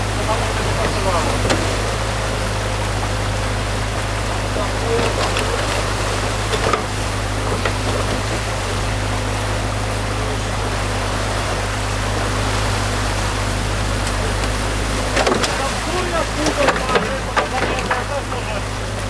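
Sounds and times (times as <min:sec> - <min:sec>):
diesel engine humming: 0:00.0 - 0:19.0
stream water rushing: 0:00.0 - 0:19.0.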